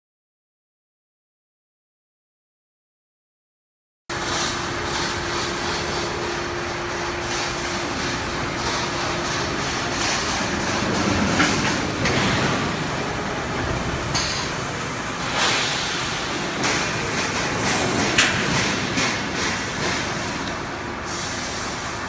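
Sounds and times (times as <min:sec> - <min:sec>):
steady machine noise: 0:04.1 - 0:22.0.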